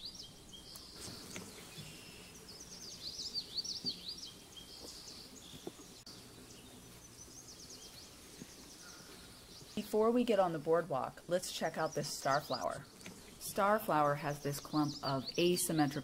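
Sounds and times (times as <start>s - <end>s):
faint outdoor background noise: 0.0s - 16.0s
songbirds singing: 0.0s - 16.0s.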